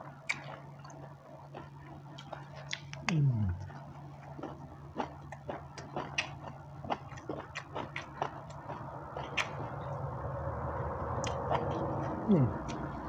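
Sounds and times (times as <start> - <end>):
person chewing food: 0.0 - 9.9, 11.0 - 13.0
steady low hum: 0.0 - 13.0.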